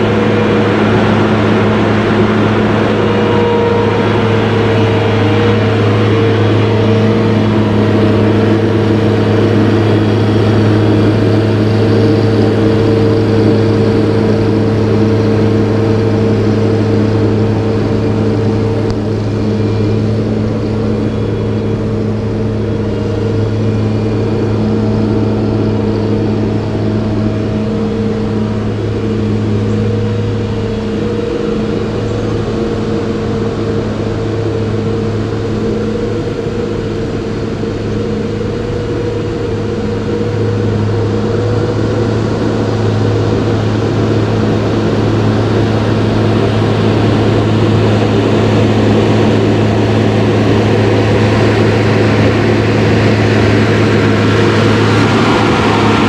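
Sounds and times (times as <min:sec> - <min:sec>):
motor drone: 0:00.0 - 0:56.0.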